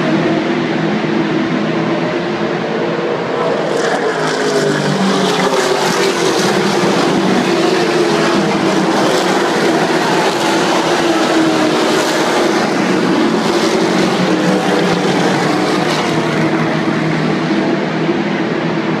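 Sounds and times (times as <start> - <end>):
race car engines drone: 0.0 - 19.0.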